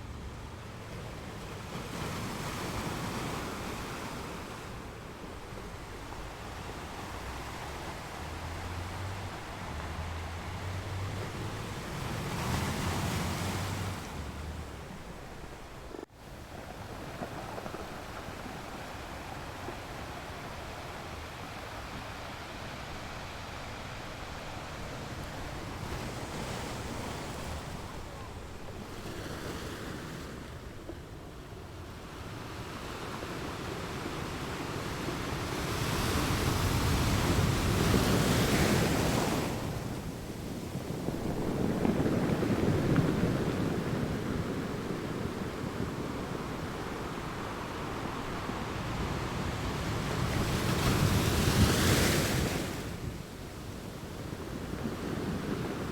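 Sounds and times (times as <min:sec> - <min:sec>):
sea waves surging: 0:00.0 - 0:55.9.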